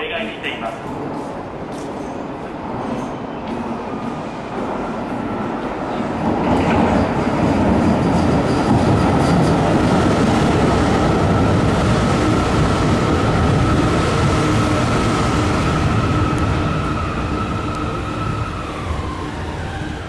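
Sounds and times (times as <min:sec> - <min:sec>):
train pulling into station: 0:00.0 - 0:20.0.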